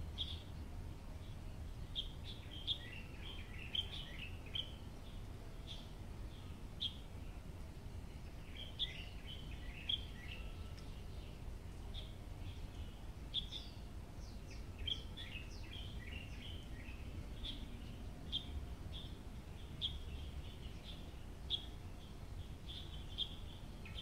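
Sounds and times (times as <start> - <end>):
low steady rumble: 0.0 - 24.0
small birds chirping: 0.0 - 24.0.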